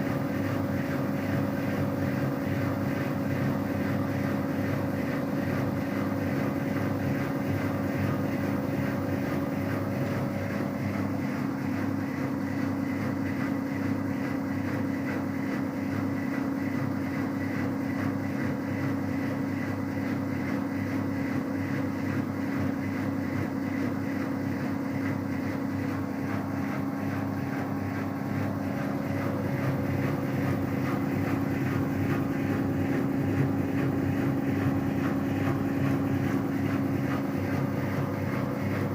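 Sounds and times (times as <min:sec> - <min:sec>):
motor and drum drone: 0:00.0 - 0:38.9
washing machine spinning: 0:00.0 - 0:38.9.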